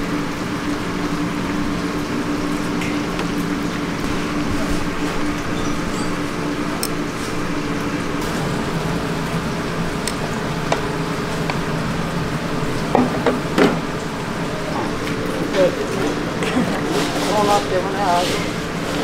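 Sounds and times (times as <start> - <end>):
street food stall background noise: 0.0 - 19.0
low hum: 2.4 - 17.8.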